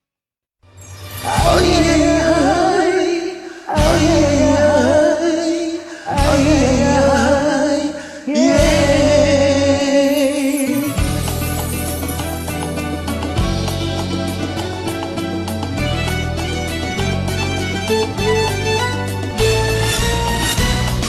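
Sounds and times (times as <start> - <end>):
karaoke backing track: 1.2 - 21.0.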